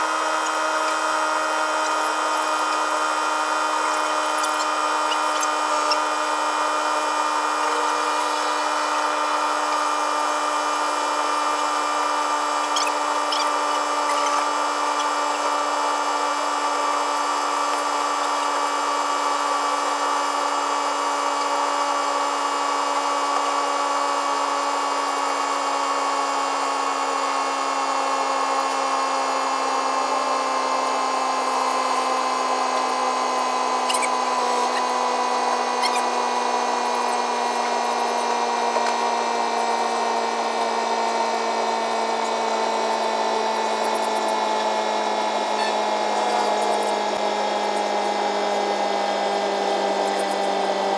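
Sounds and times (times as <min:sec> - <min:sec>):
power tool motor whining: 0:00.0 - 0:50.9.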